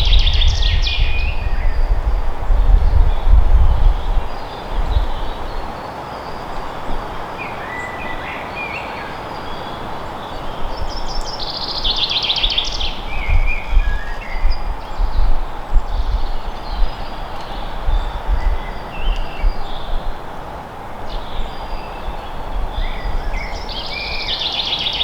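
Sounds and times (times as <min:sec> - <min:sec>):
songbirds chirping: 0:00.0 - 0:25.0
wind hiss with gusts: 0:00.0 - 0:25.0.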